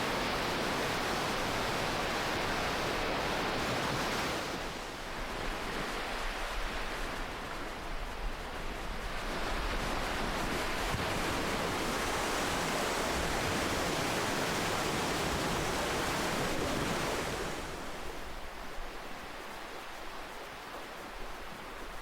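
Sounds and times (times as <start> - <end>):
ocean waves on shore: 0.0 - 22.0.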